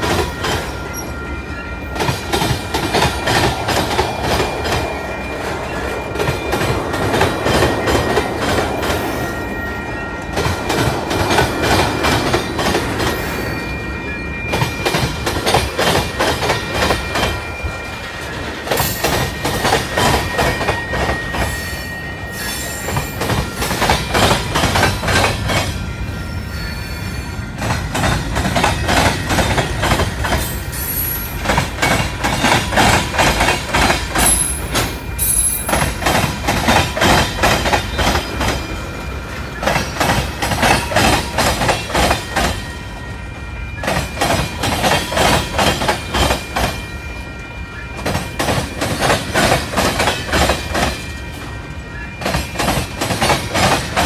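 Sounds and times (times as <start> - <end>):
wheels clacking over rail joints: 0.0 - 13.4, 14.4 - 21.6, 22.7 - 25.9, 27.5 - 43.1, 43.7 - 54.0.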